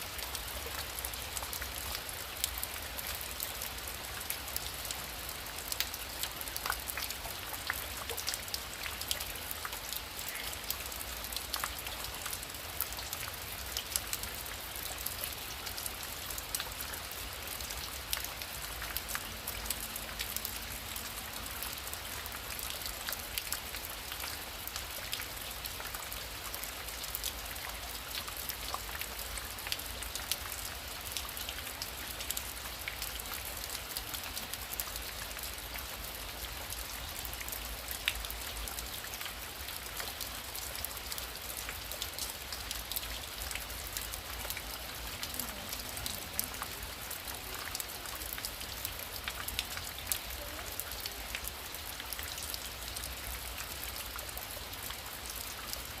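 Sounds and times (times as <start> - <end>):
heavy rain falling: 0.0 - 56.0
raindrops ticking on a surface: 0.0 - 56.0.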